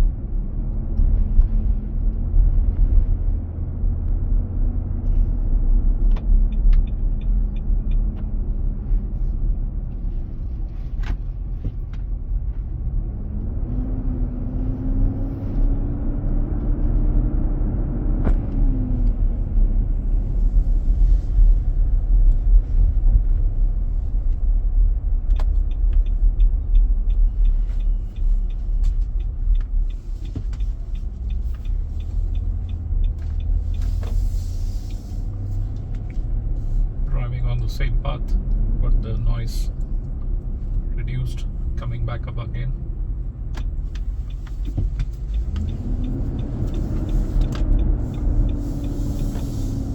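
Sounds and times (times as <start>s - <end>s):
road noise: 0.0s - 49.9s.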